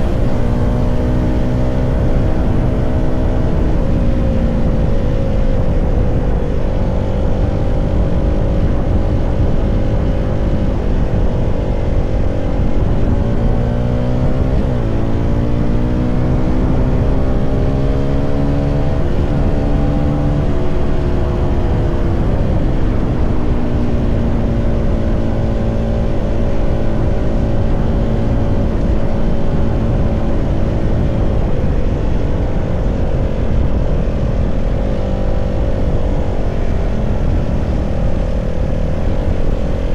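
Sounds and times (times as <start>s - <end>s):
low rushing noise: 0.0s - 39.9s
motorcycle engine running: 0.0s - 39.9s.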